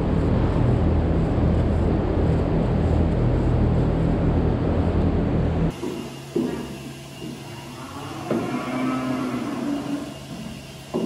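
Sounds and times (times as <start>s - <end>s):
quieter hum: 0.0s - 10.9s
low machine drone: 0.0s - 11.0s.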